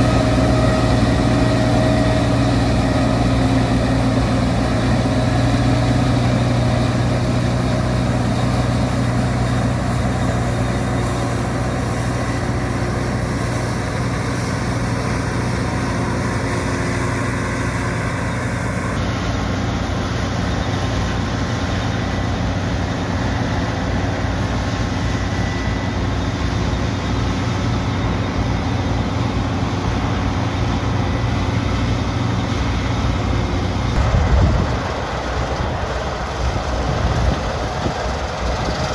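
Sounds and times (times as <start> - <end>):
machinery noise: 0.0 - 28.5, 33.8 - 38.9
combine harvester engine drone: 0.0 - 38.9.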